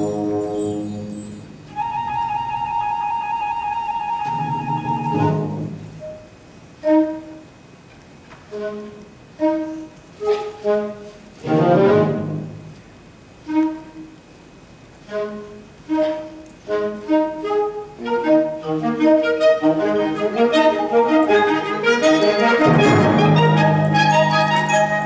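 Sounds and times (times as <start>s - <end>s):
instrumental ensemble playing: 0.0s - 7.6s, 8.5s - 12.8s, 13.4s - 14.2s, 15.0s - 25.0s.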